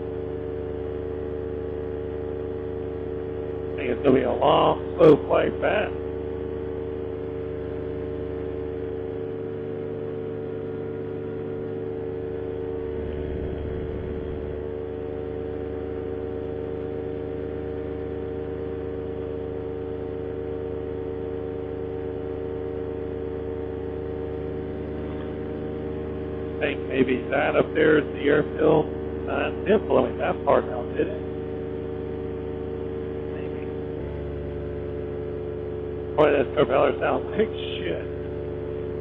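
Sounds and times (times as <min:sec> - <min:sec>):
paramotor engine droning: 0:00.0 - 0:39.0.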